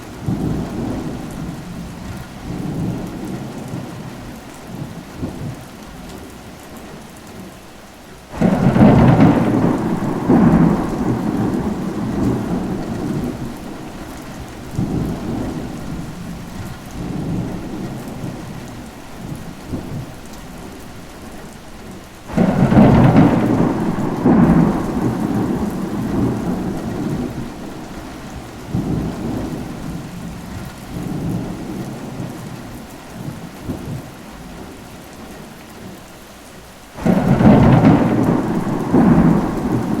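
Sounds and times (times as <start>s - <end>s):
thunder rumbling: 0.0s - 5.7s, 8.3s - 20.8s, 21.8s - 34.8s, 37.0s - 40.0s
steady rain: 0.0s - 40.0s.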